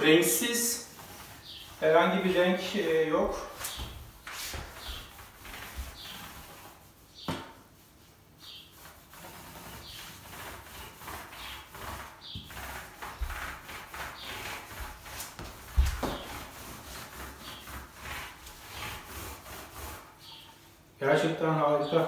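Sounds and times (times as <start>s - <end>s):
brush swishing on floorboards: 0.0s - 20.6s.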